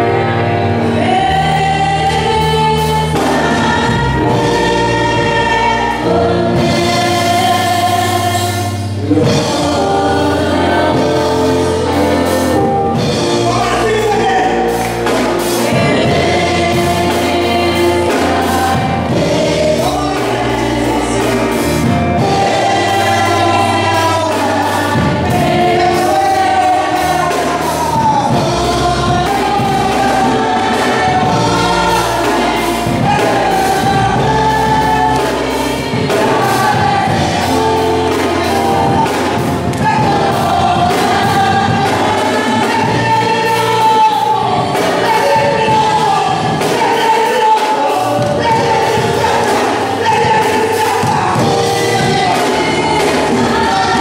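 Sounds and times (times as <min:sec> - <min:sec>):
backing vocals: 0:00.0 - 0:54.0
instrumental accompaniment: 0:00.0 - 0:54.0
man singing gospel: 0:00.0 - 0:54.0.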